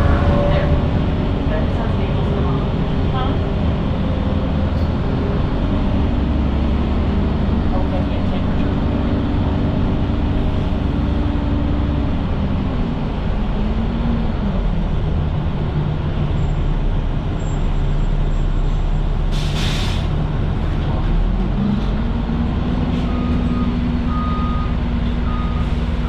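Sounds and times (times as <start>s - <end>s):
bus engine running: 0.0s - 26.0s.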